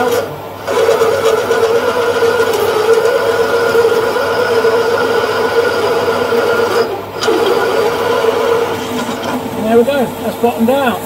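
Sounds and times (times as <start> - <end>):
metal lathe drilling whine: 0.0 - 11.0.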